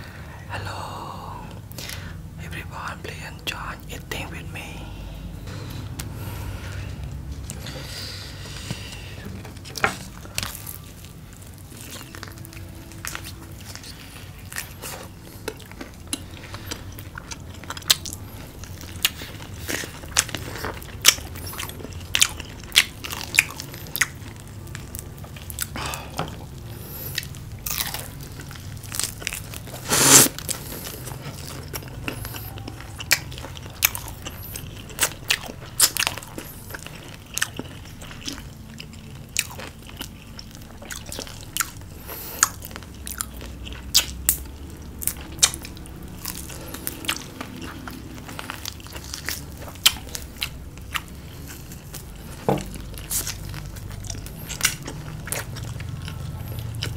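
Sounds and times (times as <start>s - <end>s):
crunching fried food: 5.8s - 56.9s.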